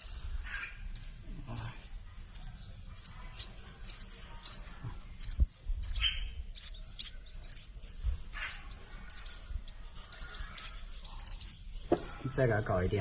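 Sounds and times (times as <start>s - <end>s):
nestlings begging chirps: 0.0s - 13.0s.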